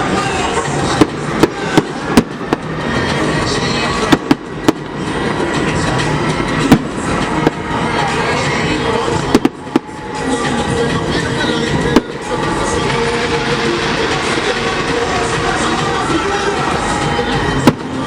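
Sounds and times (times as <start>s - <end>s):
fireworks rumble and crackle: 0.0s - 18.0s
fireworks shells bursting: 0.0s - 18.0s.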